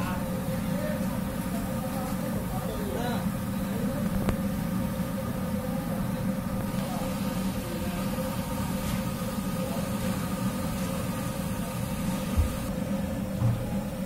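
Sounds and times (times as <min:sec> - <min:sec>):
constant hum: 0:00.0 - 0:14.0
low mechanical rumble: 0:00.0 - 0:14.0.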